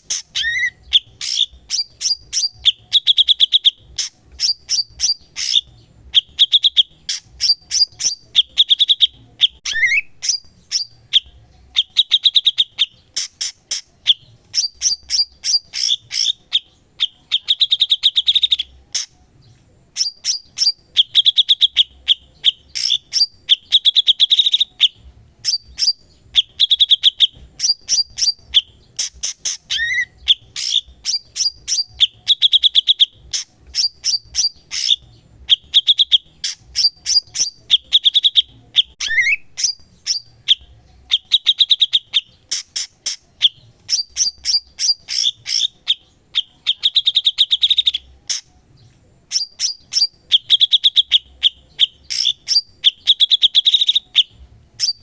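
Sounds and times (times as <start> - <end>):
bulbul singing chirps and trills: 0.0 - 55.0.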